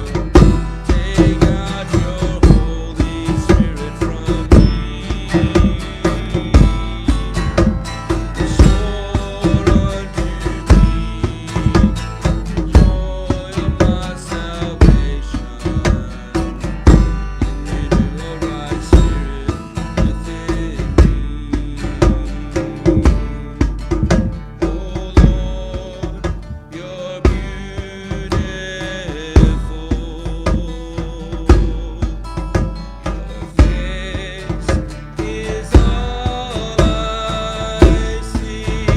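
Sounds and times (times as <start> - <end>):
steady drum beat: 0.0 - 38.9.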